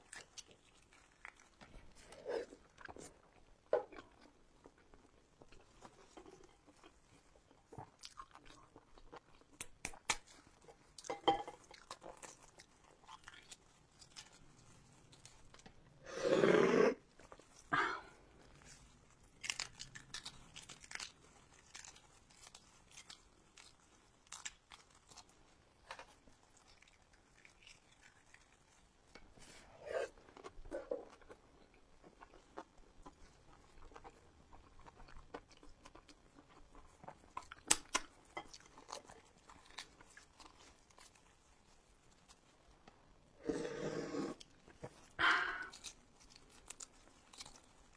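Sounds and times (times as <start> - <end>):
food crunching: 0.0 - 16.2, 16.9 - 43.0, 44.3 - 47.9
person chewing food: 0.0 - 47.9.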